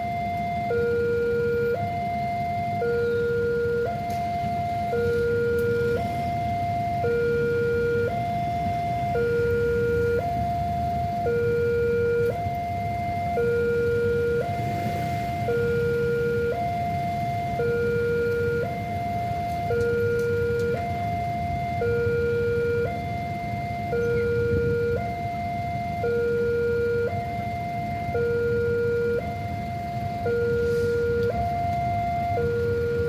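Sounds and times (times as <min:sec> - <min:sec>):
two-tone crossing alarm: 0:00.0 - 0:33.0.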